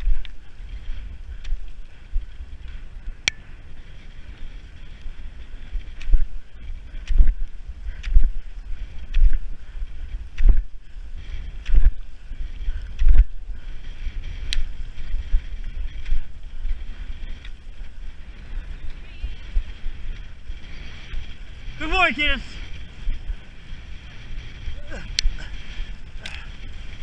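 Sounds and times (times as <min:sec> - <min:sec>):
skis and poles striding on snow: 0:00.0 - 0:27.0
wind rumble on microphone: 0:00.0 - 0:27.0.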